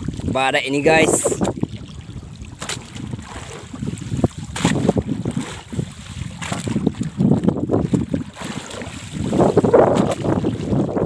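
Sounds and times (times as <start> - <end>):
water washing around boat: 0.0 - 11.0
wind buffeting microphone: 0.0 - 11.0.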